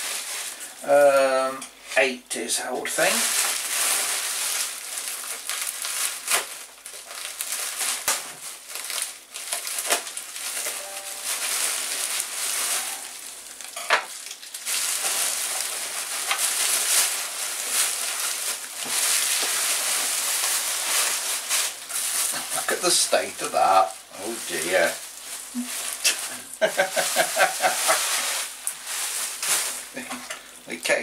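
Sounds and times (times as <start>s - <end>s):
bubble wrap crinkling: 0.0s - 1.5s, 2.4s - 31.0s.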